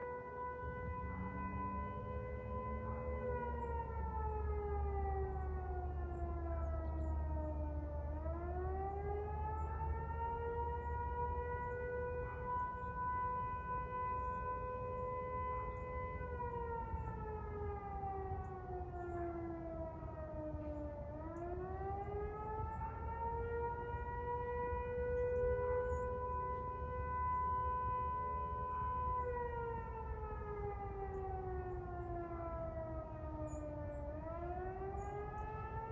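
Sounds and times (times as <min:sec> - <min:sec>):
fire siren wailing: 0:00.0 - 0:35.9.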